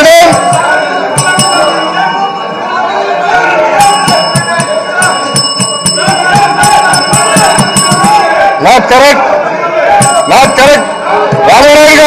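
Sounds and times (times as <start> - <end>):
electric bell ringing: 0.0 - 8.4, 10.0 - 12.0
many people shouting: 0.0 - 12.0.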